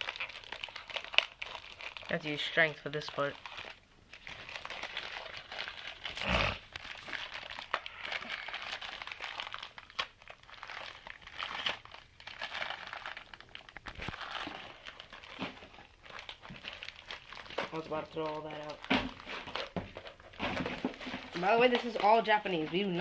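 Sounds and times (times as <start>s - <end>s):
packaging crinkling: 0.0s - 23.0s.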